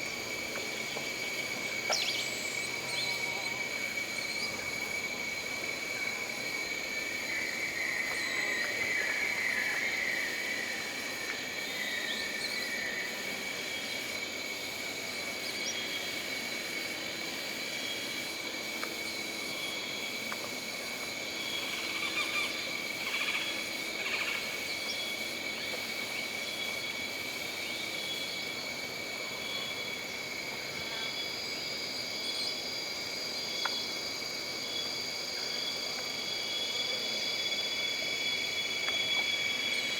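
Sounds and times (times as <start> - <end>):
insect chorus: 0.0 - 39.9
pulsing insect call: 0.0 - 39.9.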